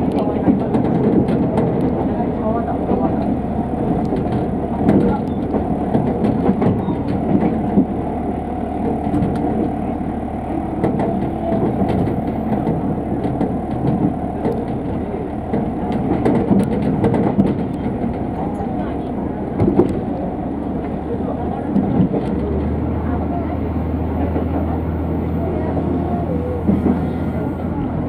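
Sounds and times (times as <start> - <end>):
railcar engine drone: 0.0 - 28.0
wheels clicking over rails: 0.0 - 28.0.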